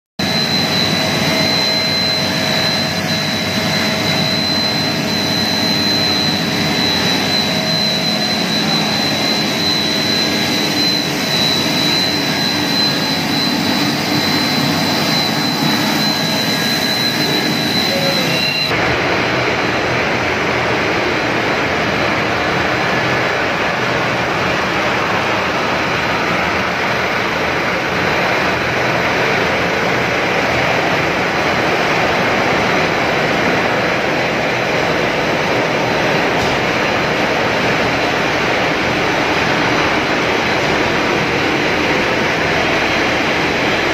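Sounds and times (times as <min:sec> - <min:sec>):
machine noise: 0:00.2 - 0:43.9
steady high machine whine: 0:00.2 - 0:43.9.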